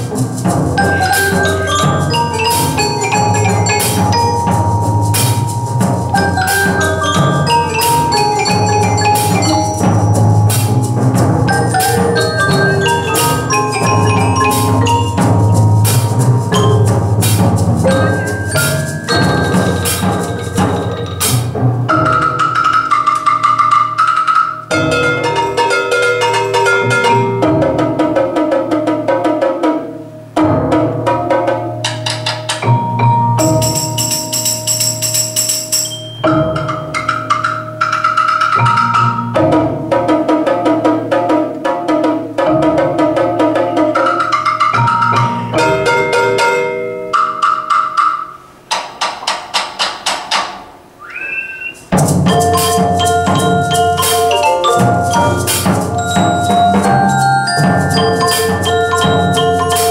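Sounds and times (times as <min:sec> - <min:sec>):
percussion ensemble playing: 0:00.0 - 0:59.9.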